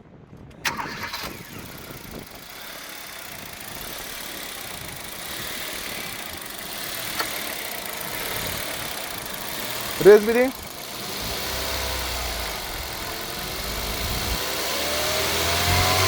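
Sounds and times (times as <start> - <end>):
car engine idling: 0.6 - 16.0.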